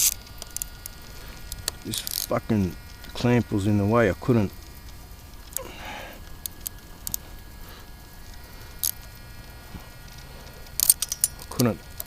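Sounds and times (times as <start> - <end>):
sharp light clicks: 0.0 - 3.3, 4.6 - 9.2, 10.1 - 12.0.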